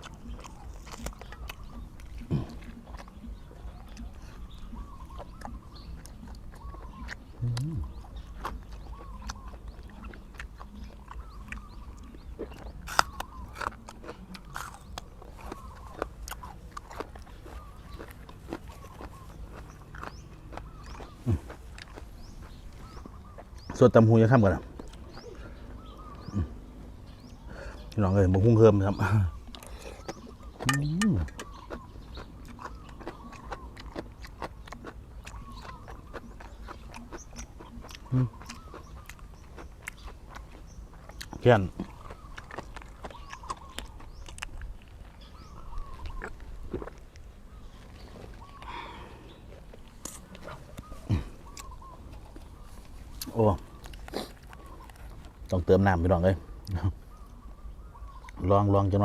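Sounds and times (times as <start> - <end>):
wet mouth sounds: 0.0 - 23.6, 29.3 - 47.2, 48.3 - 52.4, 53.1 - 55.5
person chewing crunchy food: 0.0 - 55.8.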